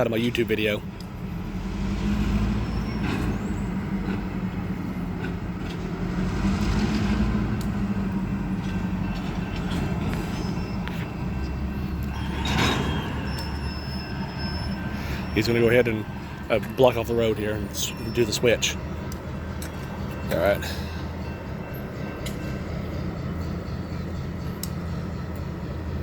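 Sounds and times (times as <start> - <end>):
diesel locomotive engine humming: 0.0 - 26.0.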